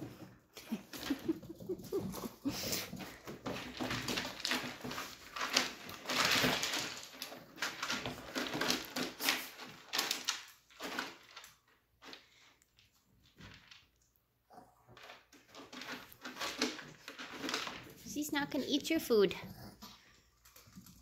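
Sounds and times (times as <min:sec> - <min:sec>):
puppies digging in pellet litter: 0:00.0 - 0:12.2, 0:14.5 - 0:21.0.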